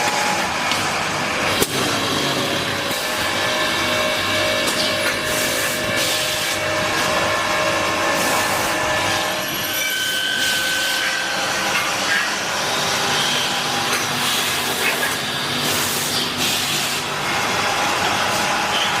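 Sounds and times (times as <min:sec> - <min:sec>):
metal-cutting machine grinding: 0:00.0 - 0:19.0.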